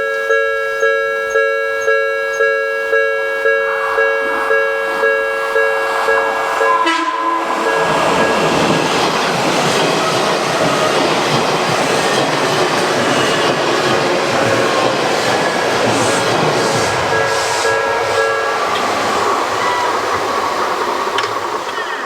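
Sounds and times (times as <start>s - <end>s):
train wheels rushing on rail: 2.8s - 22.0s.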